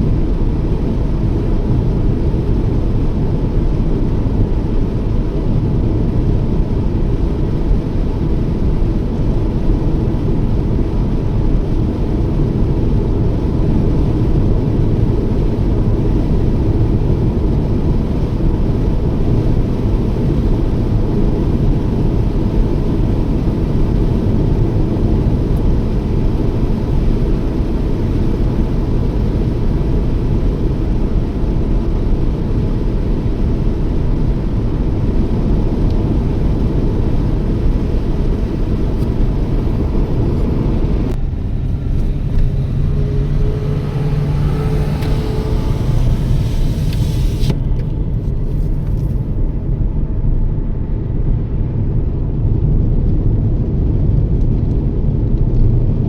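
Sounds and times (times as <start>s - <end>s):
car driving road rumble: 0.0s - 56.0s.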